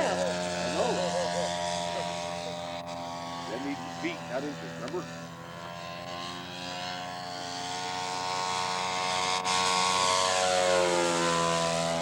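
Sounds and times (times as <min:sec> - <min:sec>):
model airplane engine flying past: 0:00.0 - 0:12.0.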